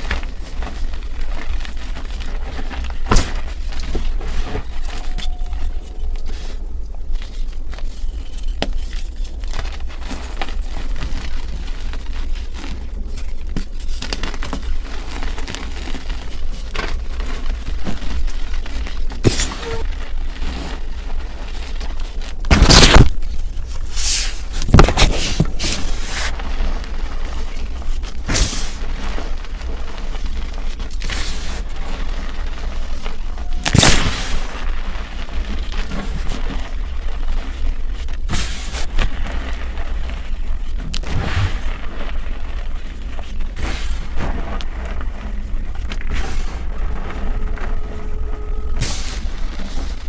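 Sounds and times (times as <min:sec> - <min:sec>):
low steady hum: 0:00.0 - 0:50.0
slabs crunching and crumbling: 0:00.0 - 0:50.0.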